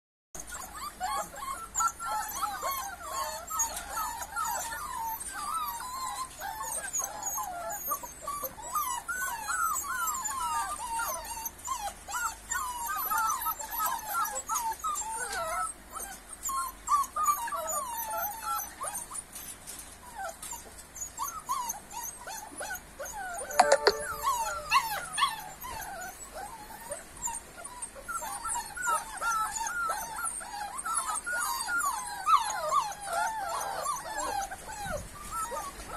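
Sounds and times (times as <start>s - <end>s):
puppies whining and whimpering: 0.4s - 35.9s
puppy yelp: 0.4s - 35.9s.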